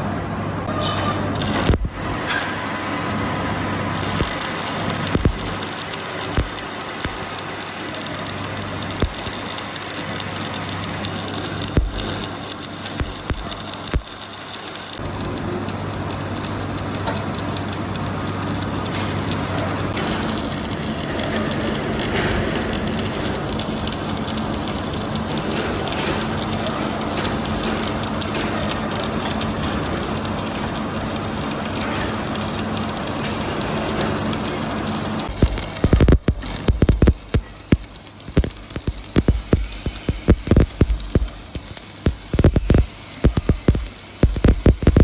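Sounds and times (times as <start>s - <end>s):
low machinery hum: 0.0s - 45.0s
crackling hiss: 1.4s - 2.2s, 3.8s - 45.0s.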